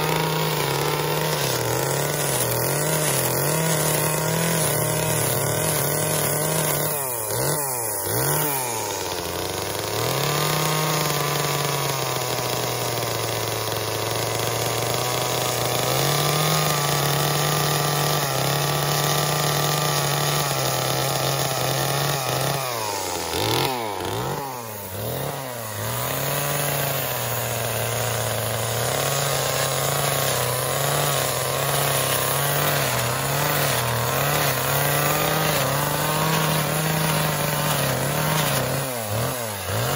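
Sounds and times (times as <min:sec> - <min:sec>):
chainsaw at high revs: 0:00.0 - 0:39.9.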